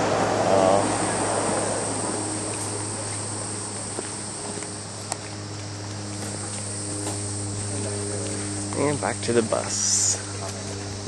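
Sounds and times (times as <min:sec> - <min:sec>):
insects chorus: 0:00.0 - 0:11.0
low steady hum: 0:00.0 - 0:11.0.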